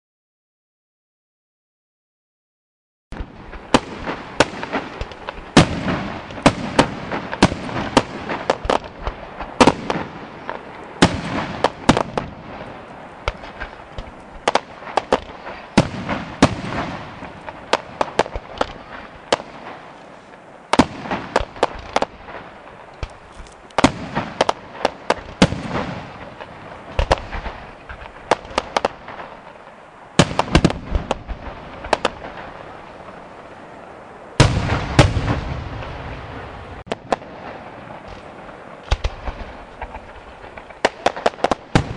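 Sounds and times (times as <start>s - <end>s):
fireworks bangs: 3.1s - 41.9s
fireworks crackle: 3.1s - 41.9s.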